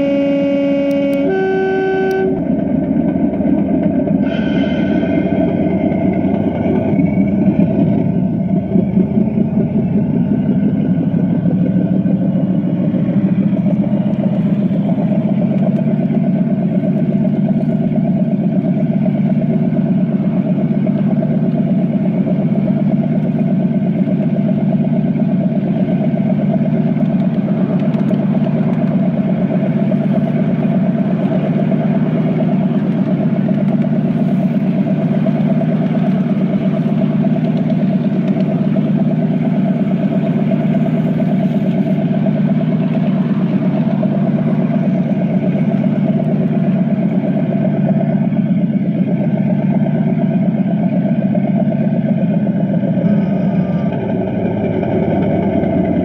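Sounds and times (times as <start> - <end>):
miniature locomotive droning: 0.0 - 56.0.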